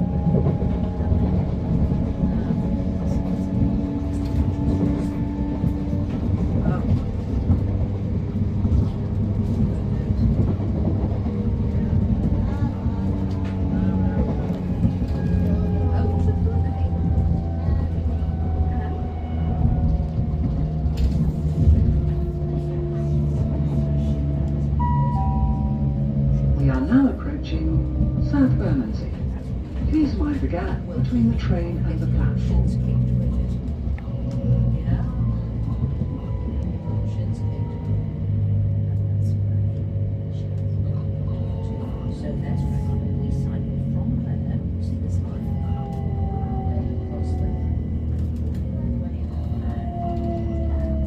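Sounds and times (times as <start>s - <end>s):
wheels rumbling on track: 0.0s - 51.0s.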